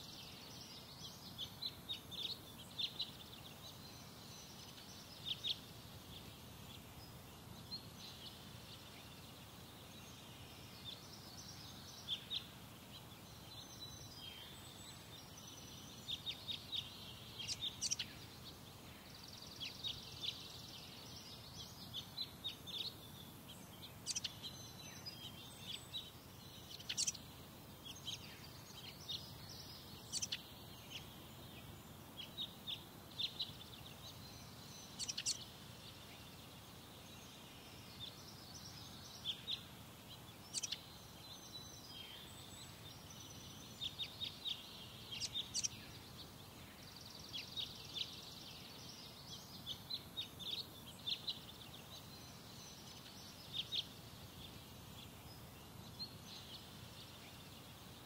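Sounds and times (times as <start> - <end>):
birds chirping: 0.0 - 58.0
low steady background noise: 0.0 - 58.0.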